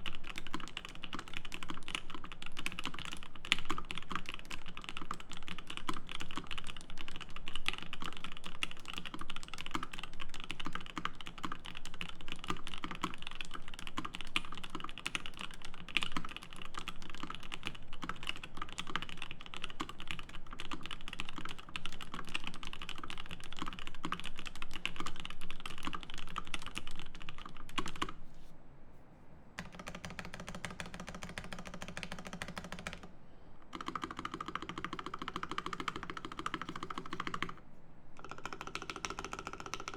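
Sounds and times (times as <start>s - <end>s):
mechanical keyboard typing: 0.0s - 28.2s, 29.6s - 33.1s, 33.7s - 37.6s, 38.2s - 39.9s
faint low hum: 0.0s - 39.9s.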